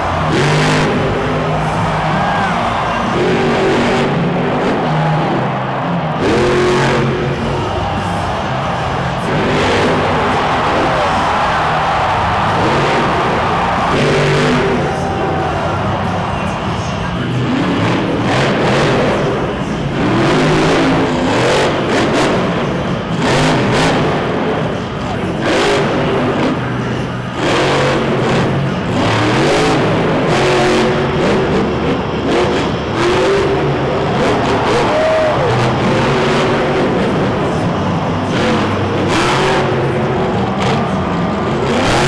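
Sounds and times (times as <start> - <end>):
monster truck engine revving: 0.0 - 42.0.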